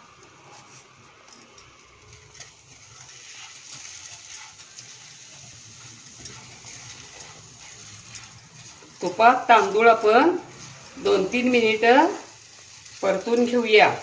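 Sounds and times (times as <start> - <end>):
rice sizzling in hot fat: 0.0 - 14.0
spatula tapping and scraping pan: 2.1 - 14.0.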